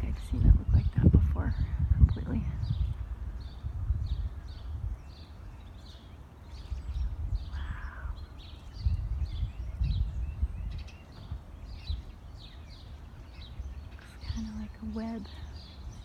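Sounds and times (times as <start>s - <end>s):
low rumbling noise: 0.0s - 16.0s
small birds chirping: 0.0s - 16.0s.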